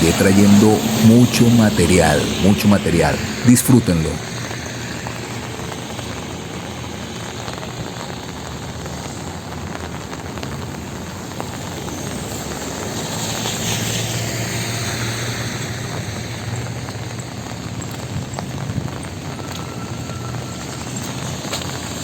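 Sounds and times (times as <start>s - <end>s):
city traffic on wet street: 0.0s - 22.0s
steady rain: 0.0s - 22.0s
vehicle passing on wet road: 0.0s - 22.0s.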